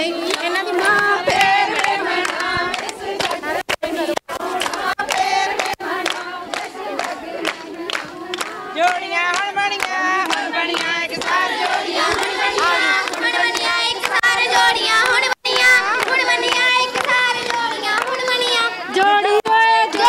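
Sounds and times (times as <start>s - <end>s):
women singing together: 0.0s - 20.0s
hand-clapping: 0.2s - 18.6s, 19.4s - 20.0s.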